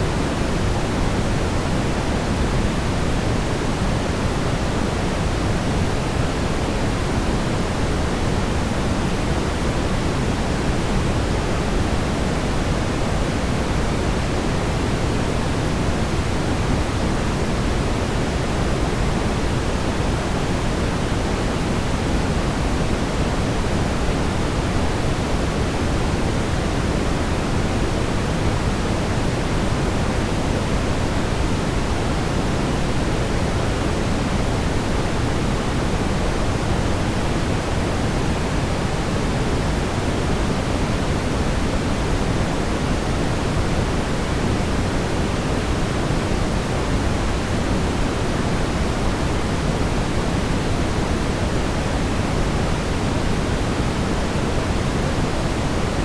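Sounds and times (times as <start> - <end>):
brown noise hiss-rumble: 0.0 - 56.0.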